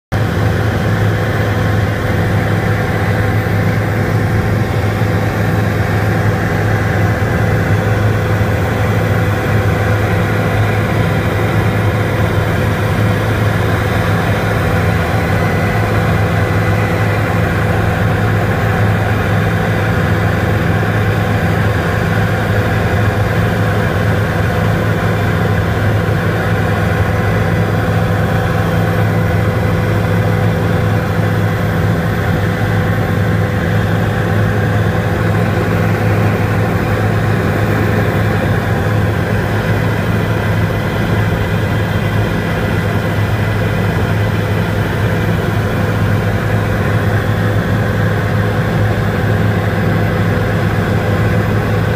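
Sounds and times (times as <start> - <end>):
helicopter rotor and engine drone: 0.1 - 51.9.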